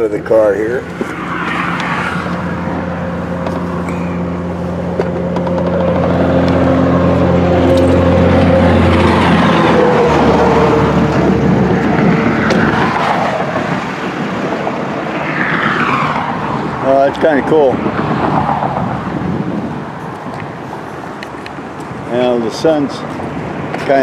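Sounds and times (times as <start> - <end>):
truck engine drone passing: 0.0 - 23.7.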